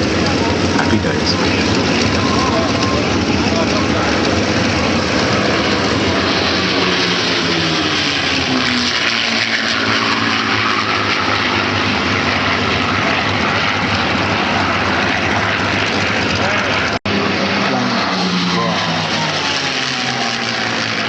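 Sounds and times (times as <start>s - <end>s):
propeller plane engines passing: 0.0s - 21.0s
rushing propeller and air noise: 0.0s - 21.0s.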